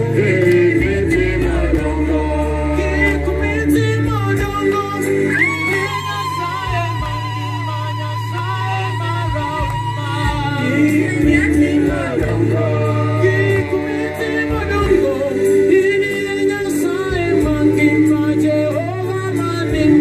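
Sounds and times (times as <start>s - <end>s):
electric keyboard bass notes: 0.0s - 20.0s
men singing into microphones: 0.0s - 20.0s.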